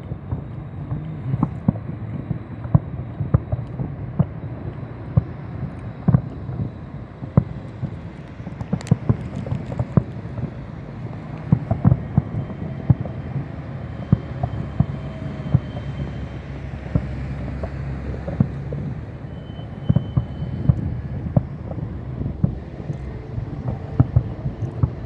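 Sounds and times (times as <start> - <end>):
fireworks popping and banging: 0.0 - 25.0
wind on microphone: 0.0 - 25.0.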